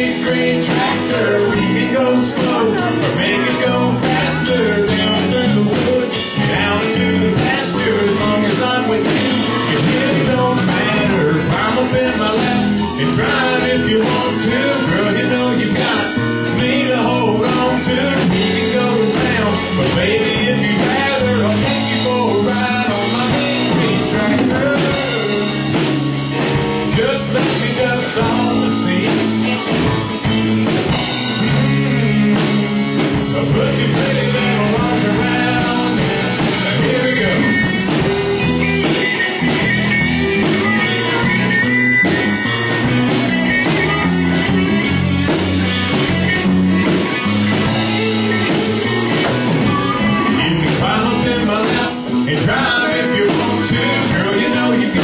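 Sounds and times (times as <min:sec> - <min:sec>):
country band guitar: 0:00.0 - 0:55.0
steady drum beat: 0:00.0 - 0:55.0.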